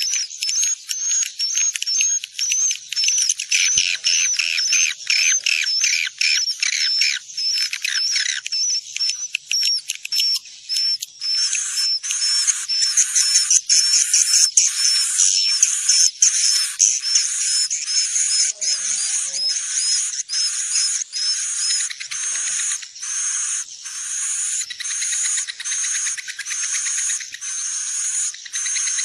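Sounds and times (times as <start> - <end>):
swiftlets twittering: 0.0 - 29.0.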